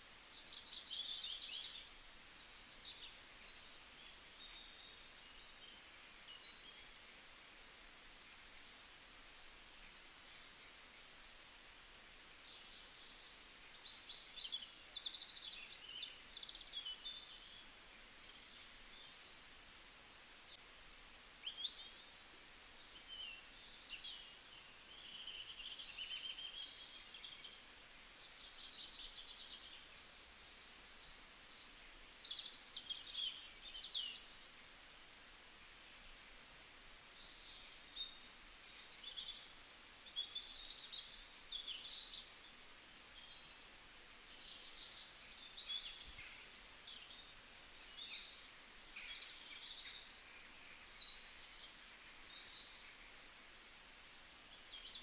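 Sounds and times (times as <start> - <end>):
faint background hiss: 0.0 - 55.0
small birds chirping: 0.0 - 55.0.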